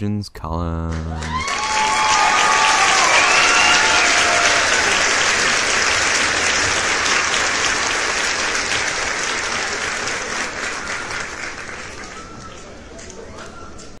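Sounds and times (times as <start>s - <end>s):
crowd applauding: 0.9s - 13.9s.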